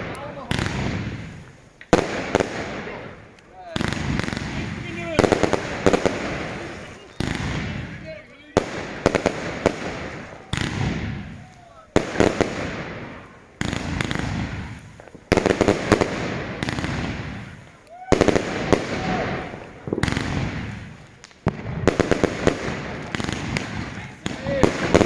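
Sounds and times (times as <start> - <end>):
fireworks bursts: 0.0 - 25.0
fireworks crackling: 0.0 - 25.0.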